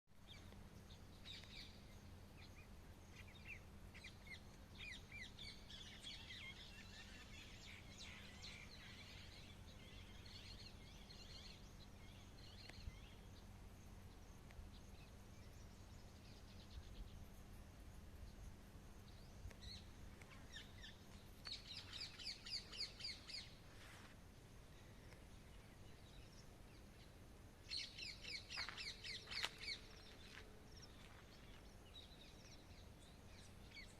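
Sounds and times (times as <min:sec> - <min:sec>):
wild birds chirping: 0:00.1 - 0:33.9
faint low hum: 0:00.2 - 0:33.9.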